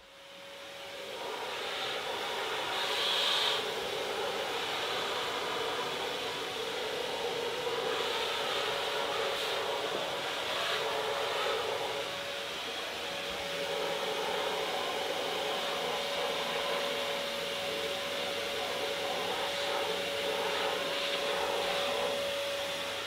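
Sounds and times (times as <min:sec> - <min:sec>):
vacuum cleaner whining: 0:00.0 - 0:23.0.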